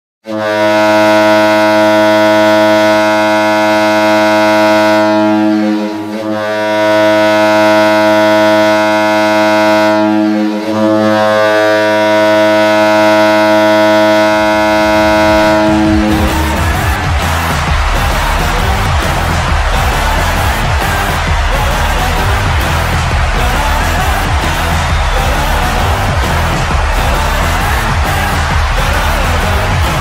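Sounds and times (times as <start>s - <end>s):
arena music: 0.2s - 30.0s
goal horn blasts: 0.2s - 30.0s.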